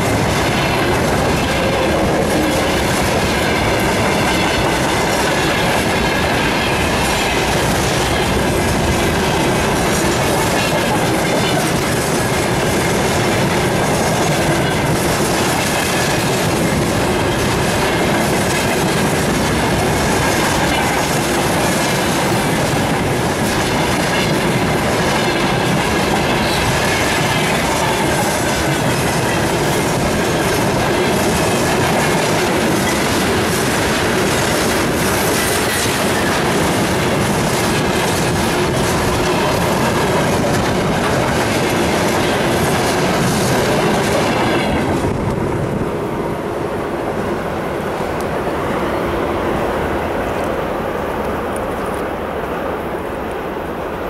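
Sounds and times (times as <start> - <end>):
freight train wheels clattering: 0.0 - 48.4.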